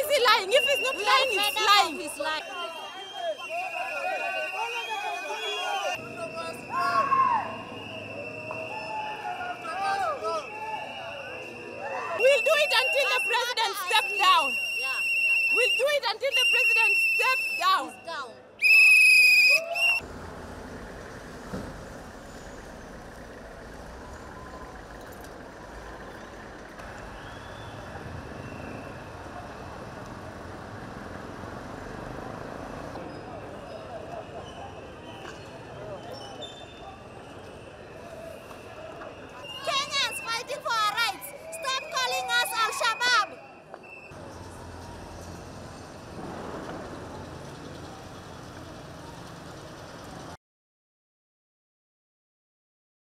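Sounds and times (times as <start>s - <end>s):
traffic rumble: 0.0s - 50.4s
truck engines droning: 0.0s - 50.4s.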